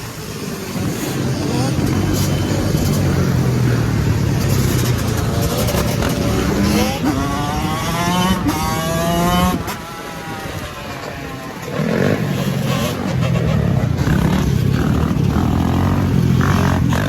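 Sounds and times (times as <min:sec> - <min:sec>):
motorcycle engine revving: 0:00.0 - 0:17.0
motorcycle engines running: 0:00.0 - 0:17.0.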